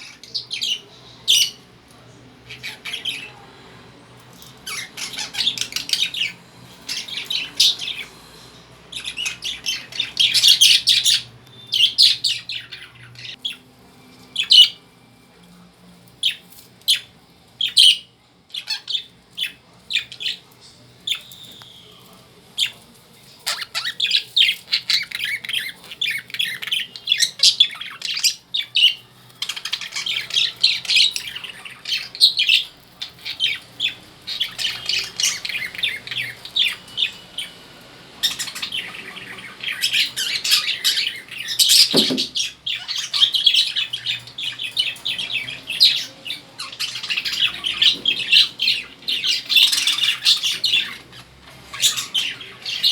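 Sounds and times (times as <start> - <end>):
lovebirds chattering: 0.0 - 15.0, 15.6 - 52.9.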